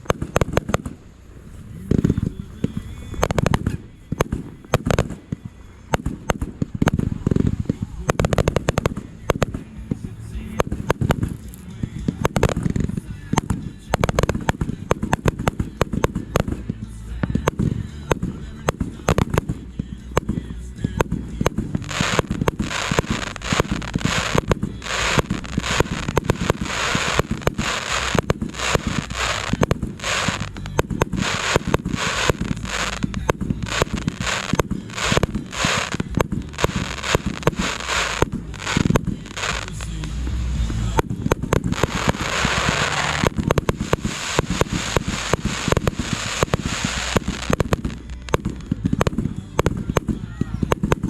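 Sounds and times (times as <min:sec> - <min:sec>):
fireworks bangs: 0:00.0 - 0:51.0
fireworks crackling: 0:00.0 - 0:51.0.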